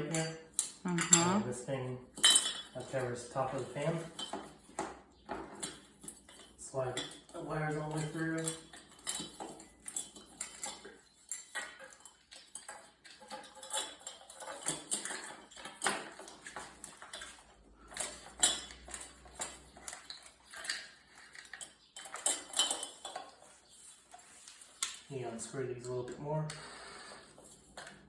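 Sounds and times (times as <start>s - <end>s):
metal parts clinking and scraping: 0.0s - 26.2s.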